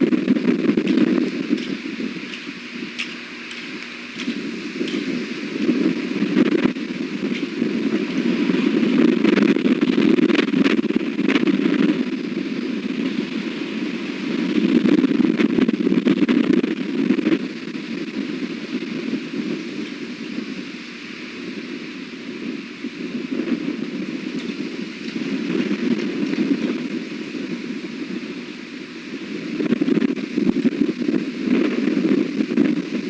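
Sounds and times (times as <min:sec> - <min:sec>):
strong wind on microphone: 0:00.0 - 0:33.0.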